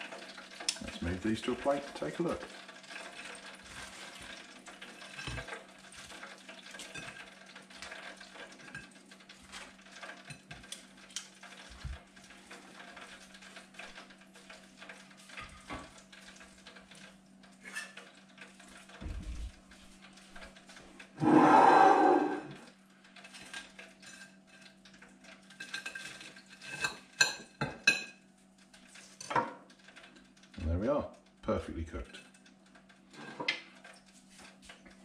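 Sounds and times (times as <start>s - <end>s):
faint steady crackle: 0.0s - 21.2s, 22.6s - 35.0s.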